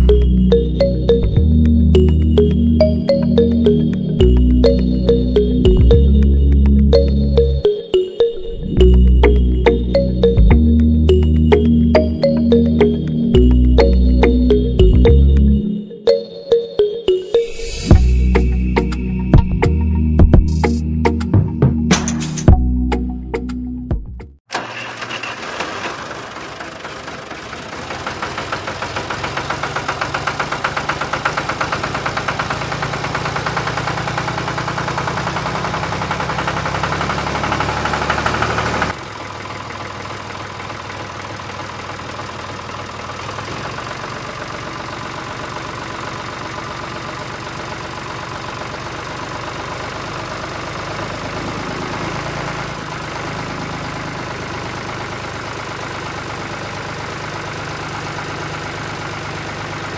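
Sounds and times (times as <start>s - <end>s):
tractor engine chugging: 0.0s - 8.0s, 8.8s - 15.7s, 24.5s - 59.9s.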